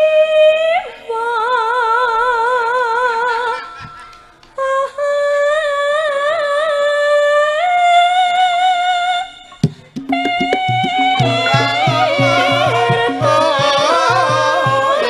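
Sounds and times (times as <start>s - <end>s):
woman singing with vibrato: 0.0s - 3.8s, 4.6s - 15.0s.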